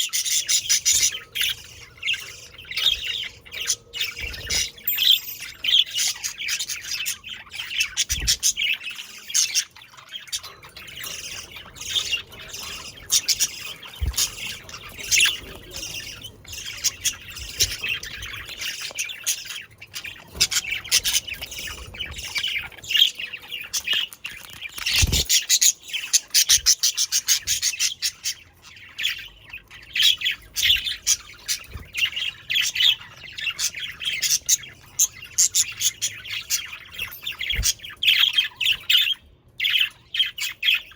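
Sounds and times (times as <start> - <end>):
budgerigars chirping and squawking: 0.0 - 40.9.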